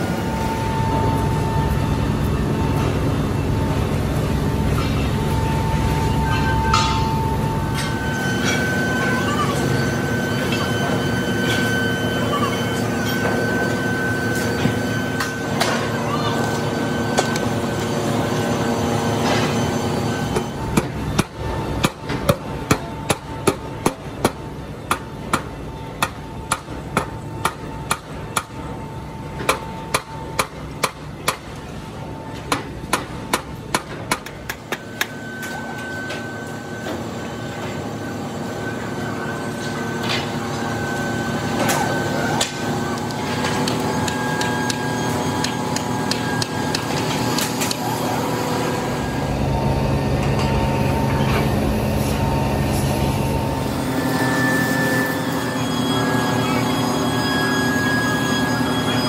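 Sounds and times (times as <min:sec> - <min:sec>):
machinery hum: 0:00.0 - 0:59.0.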